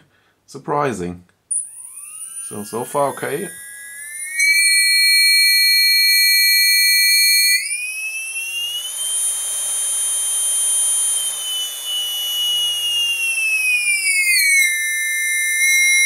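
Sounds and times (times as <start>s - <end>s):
brushless motor high-pitched whine: 1.5s - 16.0s.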